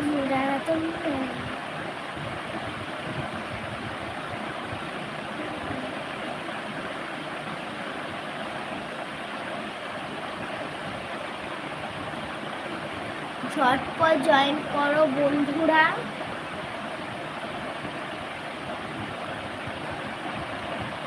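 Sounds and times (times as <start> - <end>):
ceiling fan running: 0.0 - 21.0.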